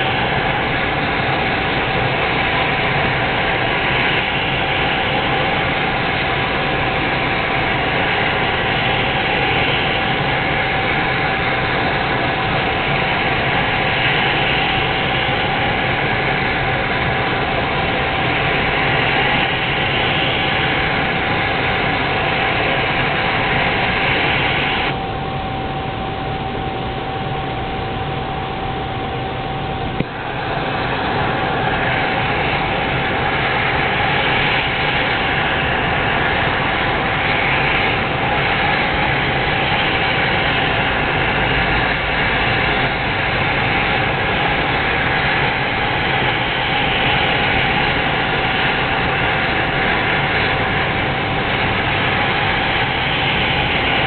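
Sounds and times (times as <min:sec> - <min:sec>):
gas burner flame rushing: 0:00.0 - 0:25.3, 0:28.7 - 0:54.0
thin steady whistle: 0:00.0 - 0:54.0.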